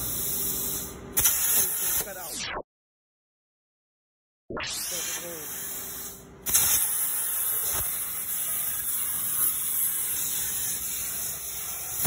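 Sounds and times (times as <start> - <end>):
plasma arc hissing: 0.0 - 2.4, 4.7 - 12.0.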